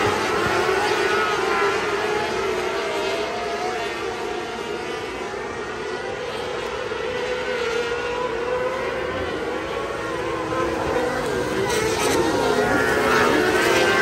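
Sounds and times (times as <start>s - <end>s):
high-revving racing engines: 0.0s - 14.0s.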